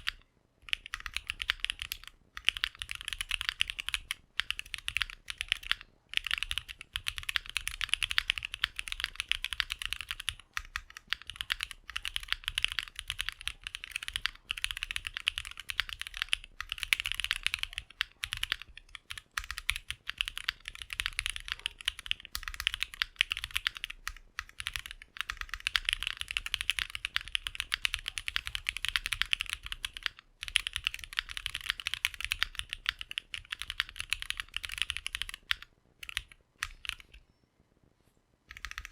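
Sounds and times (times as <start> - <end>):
fast mechanical keyboard typing: 0.0 - 37.2, 38.5 - 38.9.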